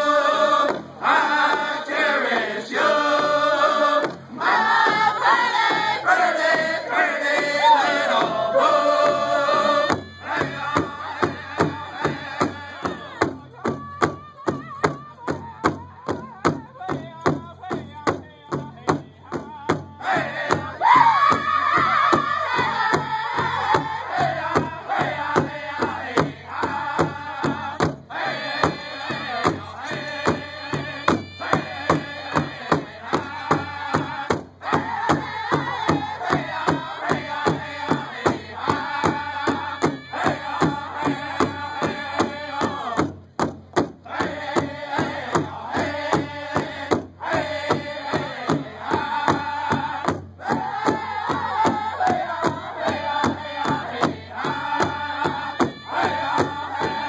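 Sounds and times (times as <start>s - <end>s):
group singing in high voices: 0.0s - 18.0s, 18.6s - 57.0s
large drum steady beat: 4.0s - 57.0s.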